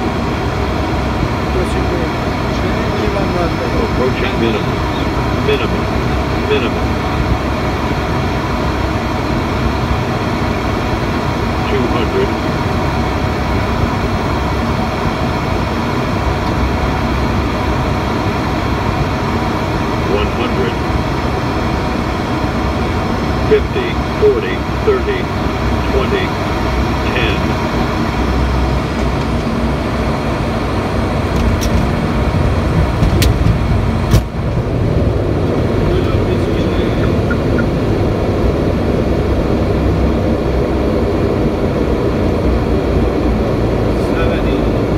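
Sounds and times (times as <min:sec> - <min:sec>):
turboprop engines droning: 0:00.0 - 0:44.9
wheels rumbling on runway: 0:00.0 - 0:44.9.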